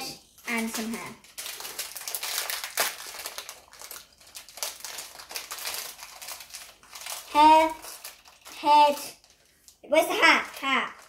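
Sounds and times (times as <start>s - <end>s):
plastic packets crinkling: 0.3s - 11.0s.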